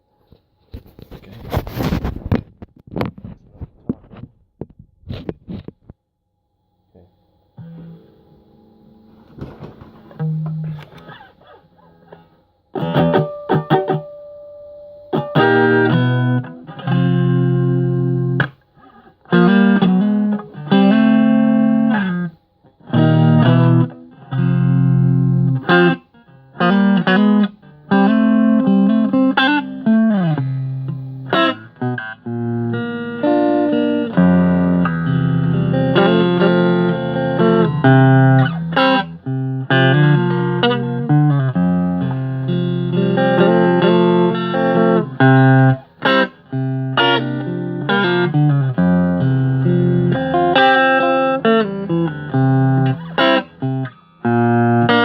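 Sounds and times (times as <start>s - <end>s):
clean electric guitar playing: 7.6s - 55.0s.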